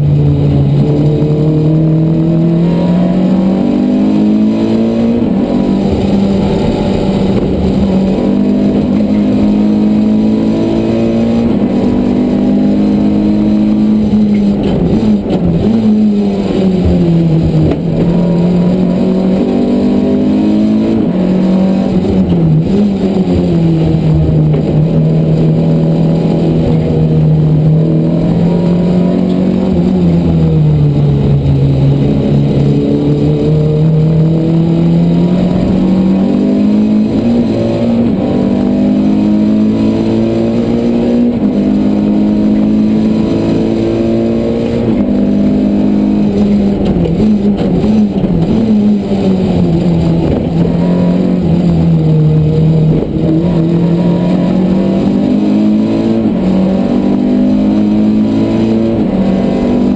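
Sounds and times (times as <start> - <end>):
race car engine revving: 0.0 - 59.9
road and wind noise: 0.0 - 59.9.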